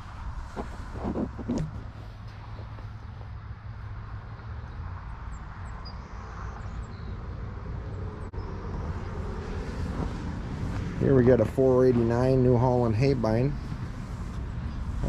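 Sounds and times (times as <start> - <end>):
low vehicle engine rumble: 0.0 - 15.0.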